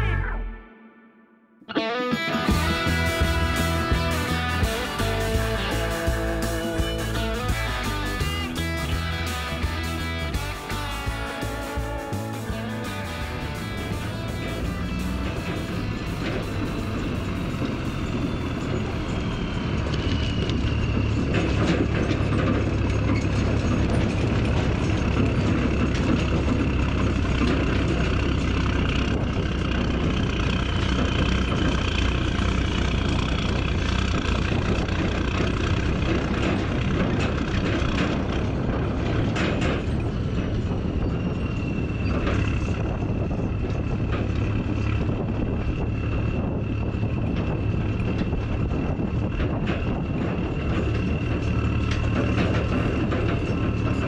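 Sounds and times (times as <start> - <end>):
rattling road noise: 1.8 - 54.0
truck engine rumble: 1.8 - 54.0.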